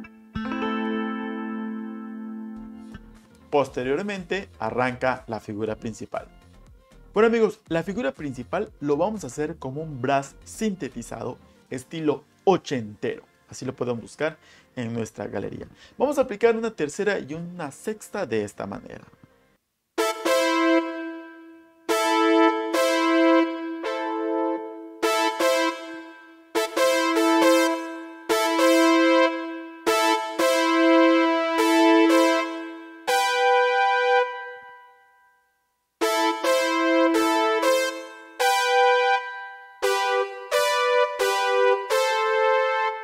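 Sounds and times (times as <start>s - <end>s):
keyboard synth-brass riff: 0.0s - 6.4s, 7.2s - 14.4s, 20.0s - 43.0s.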